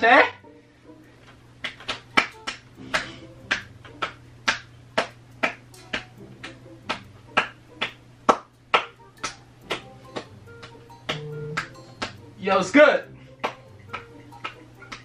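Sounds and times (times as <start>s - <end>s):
rhythmic sharp slaps: 1.2s - 15.0s.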